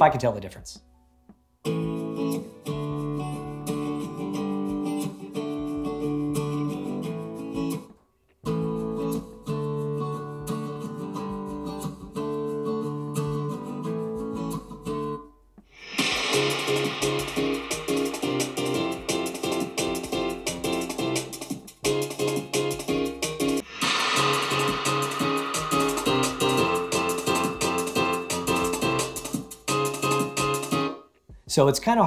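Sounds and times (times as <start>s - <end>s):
guitar music through speakers: 1.6s - 15.4s, 16.0s - 23.6s, 24.2s - 31.1s.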